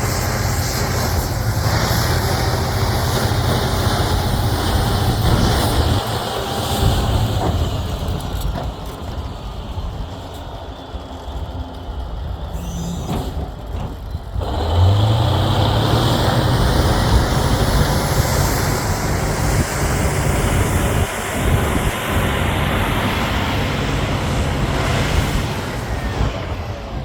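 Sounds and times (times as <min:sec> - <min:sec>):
bulldozer diesel engine: 0:00.0 - 0:27.0
bulldozer pushing dirt: 0:00.0 - 0:27.0.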